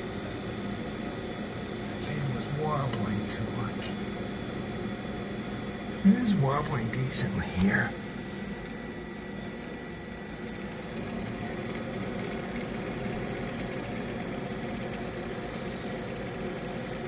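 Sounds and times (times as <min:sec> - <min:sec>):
fan motor running with wobbling blade: 0:00.0 - 0:17.0.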